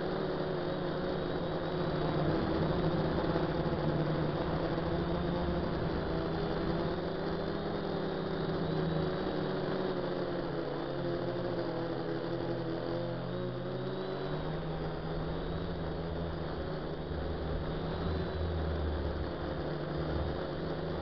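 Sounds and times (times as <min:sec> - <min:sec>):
drone propellers buzzing: 0:00.0 - 0:21.0.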